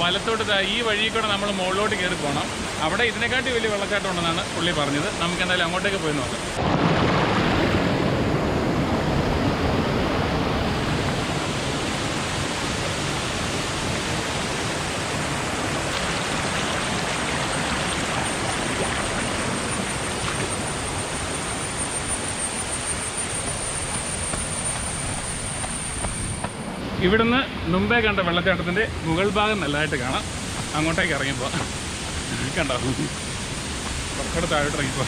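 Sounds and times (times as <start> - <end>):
waterfall and stream rushing: 0.0 - 35.0.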